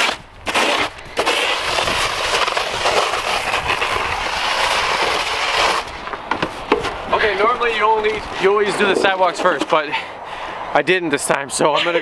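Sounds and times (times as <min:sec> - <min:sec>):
snow shovel scraping concrete: 0:00.0 - 0:10.0.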